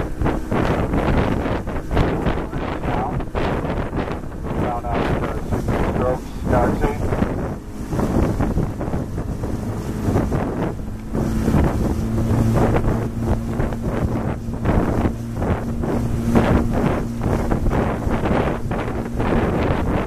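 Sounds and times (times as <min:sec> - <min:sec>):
boat engine humming: 0:00.0 - 0:20.0
wind buffeting microphone: 0:00.0 - 0:20.0.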